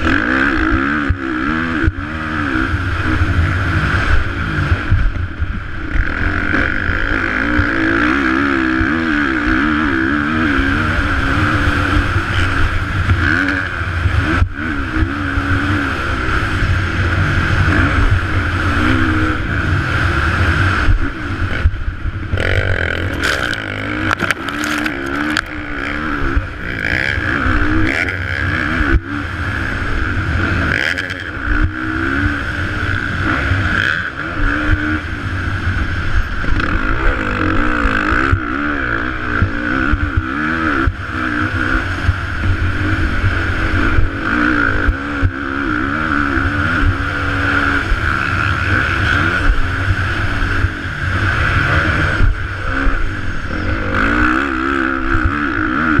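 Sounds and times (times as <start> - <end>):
dirt bike engine revving: 0.0 - 56.0
wind on microphone: 0.0 - 56.0.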